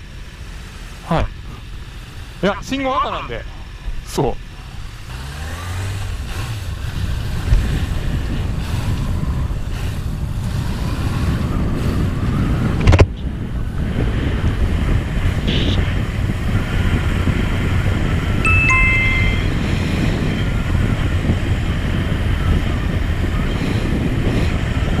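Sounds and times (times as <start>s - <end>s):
motorcycle engine riding: 0.0s - 25.0s
wind rush on microphone: 4.8s - 25.0s.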